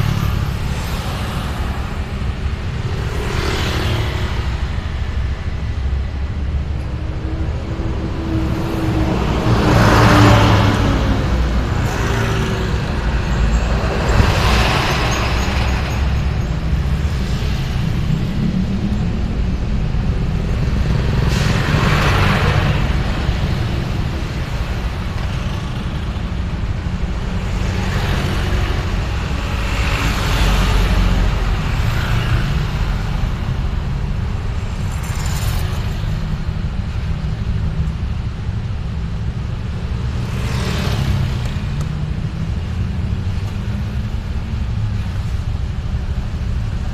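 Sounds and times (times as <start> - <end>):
traffic rumble: 0.0 - 46.9
vehicles passing close by: 0.0 - 46.9.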